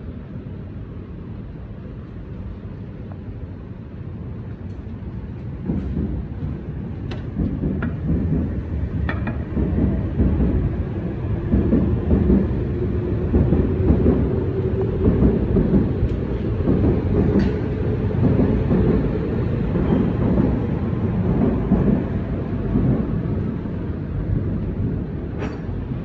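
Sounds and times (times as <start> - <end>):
train rumbling on viaduct: 0.0 - 26.0.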